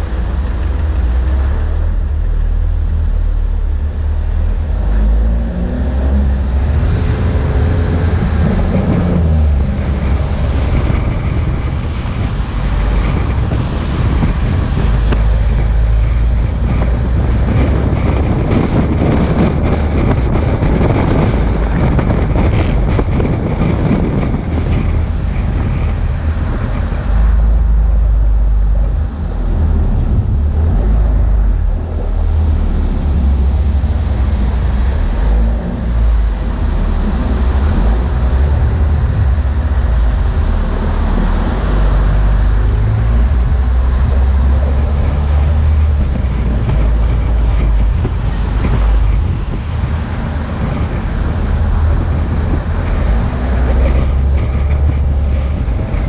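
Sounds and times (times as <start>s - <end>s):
vehicle rumbling: 0.0s - 56.0s
wind on microphone: 0.0s - 56.0s.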